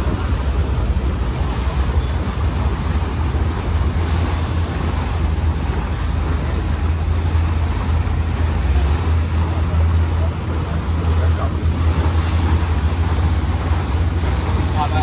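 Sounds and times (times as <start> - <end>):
boat engine droning: 0.0 - 15.0
water rushing along hull: 0.0 - 15.0.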